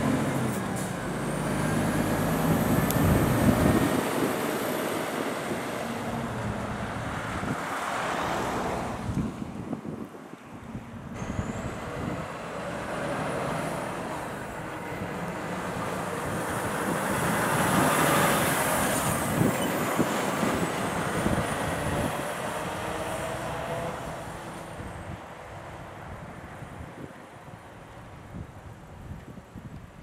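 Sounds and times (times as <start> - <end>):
truck driving past: 0.0 - 10.0, 10.6 - 26.9.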